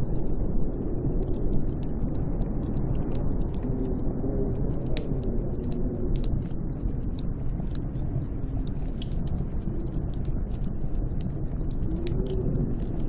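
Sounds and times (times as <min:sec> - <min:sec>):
sharp crackles and ticks: 0:00.0 - 0:13.0
wind rumbling: 0:00.0 - 0:13.0.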